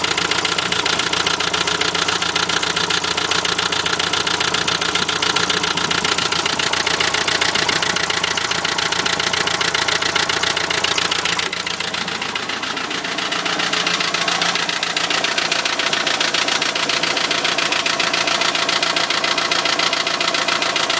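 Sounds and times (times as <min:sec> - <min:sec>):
diesel engine idling with knocking: 0:00.0 - 0:20.9.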